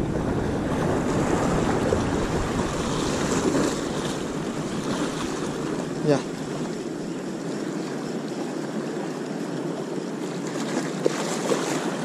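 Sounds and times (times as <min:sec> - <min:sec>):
ocean surf washing on beach: 0:00.0 - 0:12.0
wind rumbling on microphone: 0:00.0 - 0:12.0.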